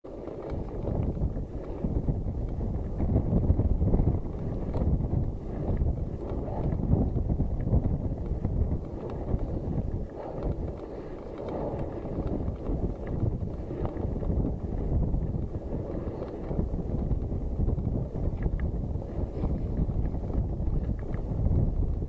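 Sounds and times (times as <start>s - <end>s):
wind buffeting microphone: 0.0s - 22.0s
tyres rolling on dirt track: 0.1s - 22.0s.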